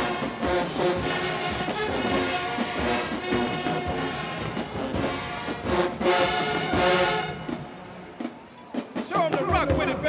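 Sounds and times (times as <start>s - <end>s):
marching band horns: 0.0s - 10.0s
steady drum beat: 0.0s - 10.0s.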